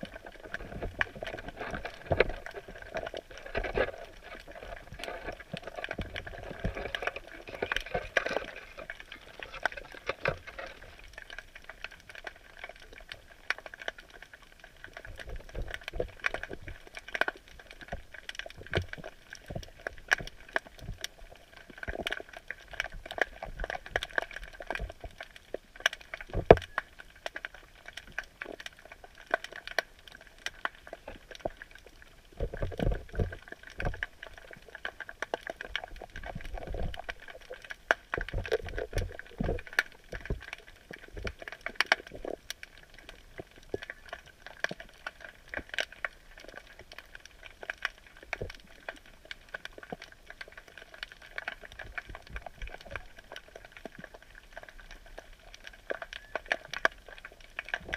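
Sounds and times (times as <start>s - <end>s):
sharp clicks and crackles: 0.0s - 57.9s.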